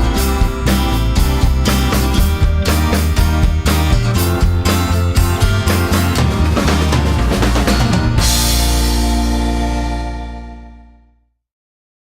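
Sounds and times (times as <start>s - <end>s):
upbeat guitar music with beat: 0.0s - 11.0s.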